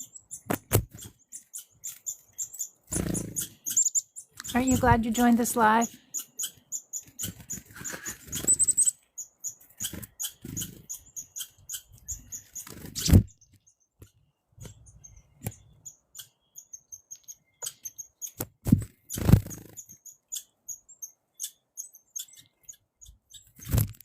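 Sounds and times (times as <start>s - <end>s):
high-pitched bird chirps: 0.0s - 13.3s, 14.6s - 18.4s, 19.1s - 23.7s.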